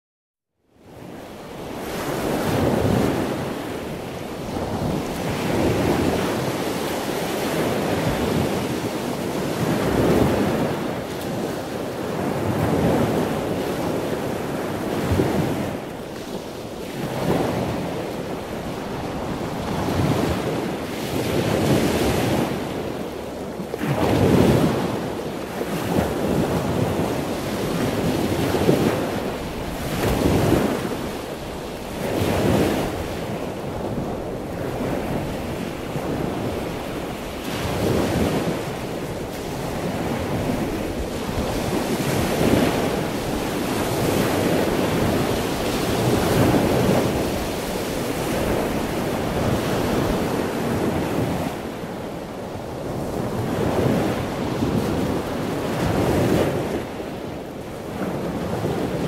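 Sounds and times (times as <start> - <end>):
ocean waves breaking: 0.8 - 59.0
wind on microphone: 0.8 - 59.0.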